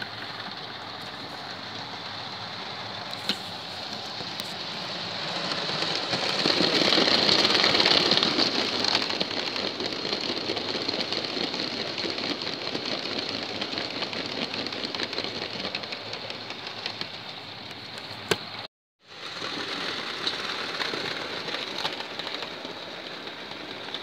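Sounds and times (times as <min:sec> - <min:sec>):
model train rolling on track: 0:00.0 - 0:24.0.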